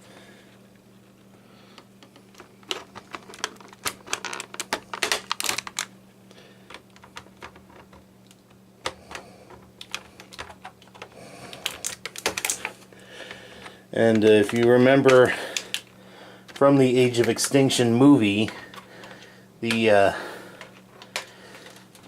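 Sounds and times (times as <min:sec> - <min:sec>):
packaging rustling: 0:02.0 - 0:05.9, 0:06.6 - 0:22.0.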